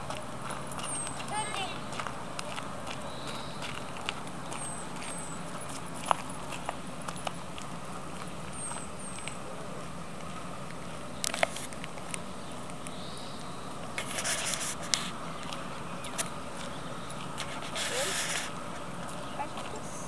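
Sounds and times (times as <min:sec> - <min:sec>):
footsteps on gravel: 0:00.0 - 0:12.9, 0:13.8 - 0:20.0
steady outdoor hiss: 0:00.0 - 0:20.0.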